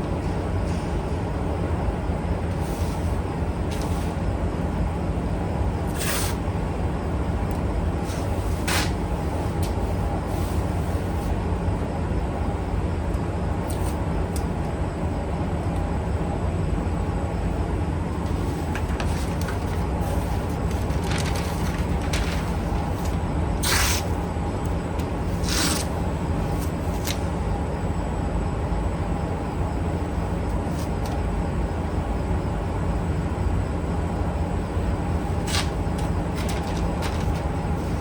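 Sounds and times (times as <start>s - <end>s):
machine hum: 0.0s - 38.0s.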